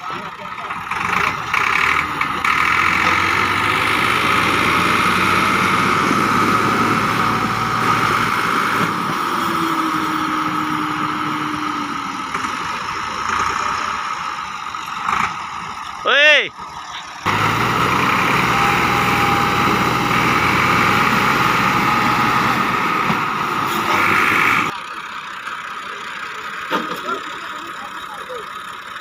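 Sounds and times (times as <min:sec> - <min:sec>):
tractor diesel engines under load: 0:00.0 - 0:29.0.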